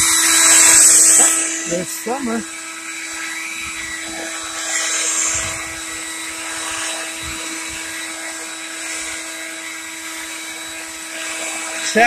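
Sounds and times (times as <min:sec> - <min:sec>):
leaf blower running: 0:00.0 - 0:12.0.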